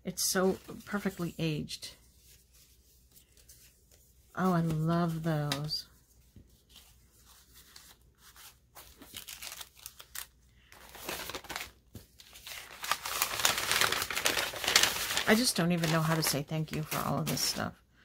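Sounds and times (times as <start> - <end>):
paper rustling and crinkling: 0.5 - 17.8.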